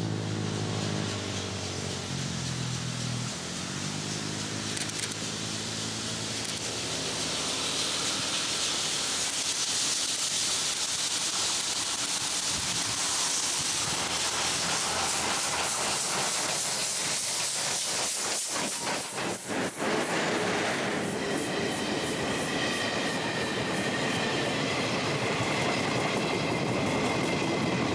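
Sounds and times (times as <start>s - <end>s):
steam locomotive hissing: 0.0s - 27.9s
train wheels clattering: 0.9s - 27.9s.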